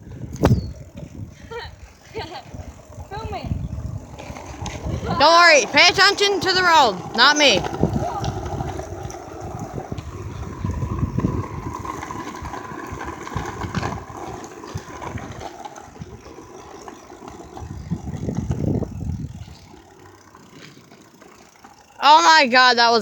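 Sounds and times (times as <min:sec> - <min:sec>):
wind buffeting microphone: 0:00.0 - 0:20.1
wheels rumbling on road: 0:00.0 - 0:23.0.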